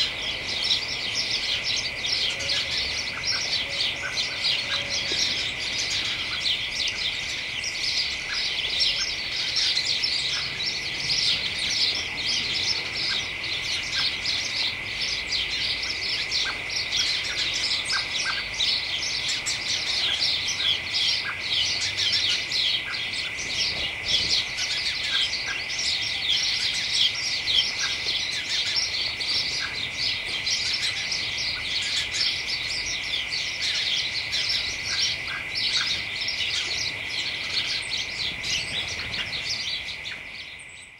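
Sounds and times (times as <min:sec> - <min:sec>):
high-pitched whine: 0:00.0 - 0:40.9
sparrows chirping: 0:00.0 - 0:40.9.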